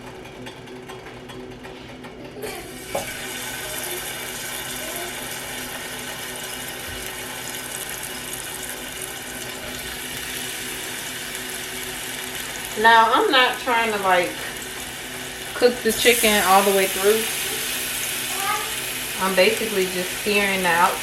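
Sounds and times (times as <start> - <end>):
chicken sizzling in a pan: 2.7 - 21.0.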